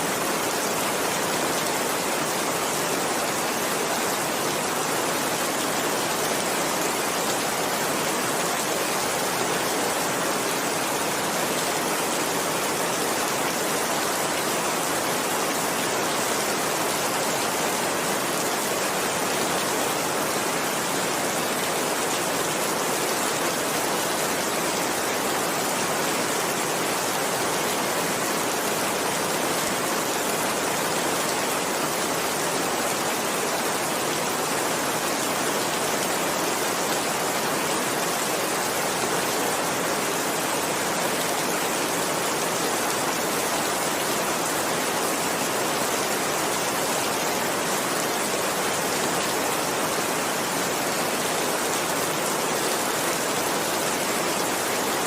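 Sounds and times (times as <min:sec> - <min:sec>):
steady downpour of rain: 0:00.0 - 0:55.0.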